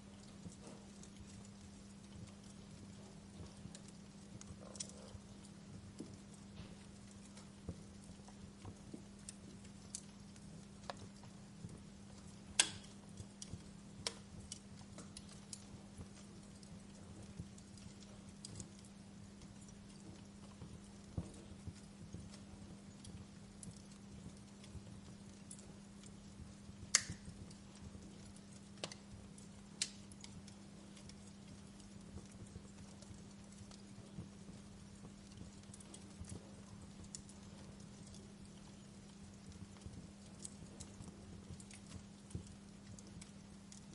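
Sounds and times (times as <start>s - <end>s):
faint steady hiss: 0.0s - 43.9s
faint steady hum: 0.0s - 43.9s
fire crackling and popping: 0.0s - 43.9s.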